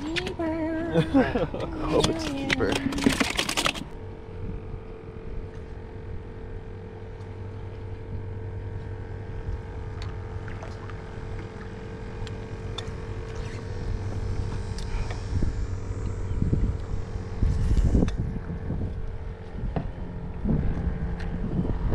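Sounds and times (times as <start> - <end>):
steady mechanical hum: 0.0 - 21.9
wind rumble on microphone: 0.0 - 21.9.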